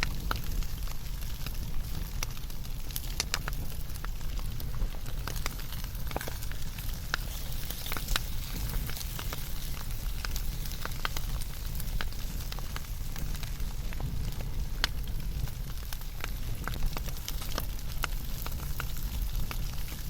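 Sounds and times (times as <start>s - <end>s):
low roar of flames: 0.0s - 20.0s
wood fire crackling and popping: 0.0s - 20.0s.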